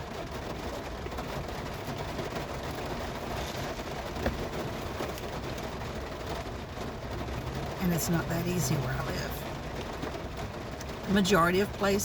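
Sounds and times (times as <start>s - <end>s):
rain pattering on van roof: 0.0s - 12.0s.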